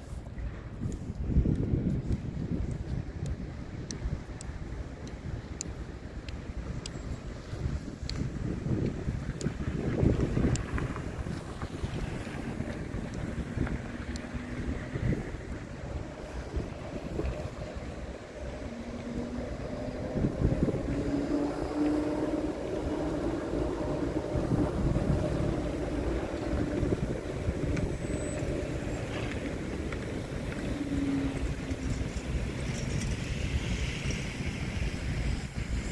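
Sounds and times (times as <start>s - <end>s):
rumble of wheels and traffic: 0.0s - 35.9s
wind buffeting microphone: 0.0s - 35.9s.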